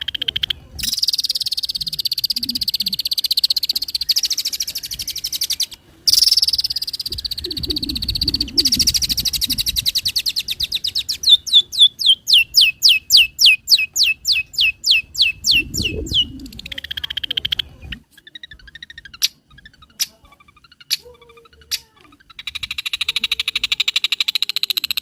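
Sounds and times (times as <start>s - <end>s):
songbird buzzy trill: 0.0s - 25.0s.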